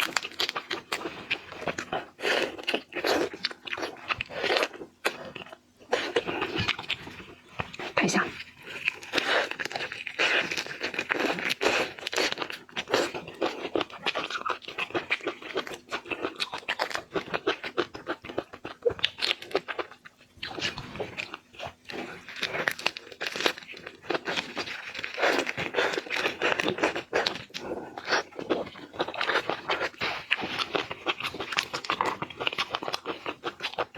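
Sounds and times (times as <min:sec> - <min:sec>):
crunching and chewing shrimp: 0:00.0 - 0:33.9.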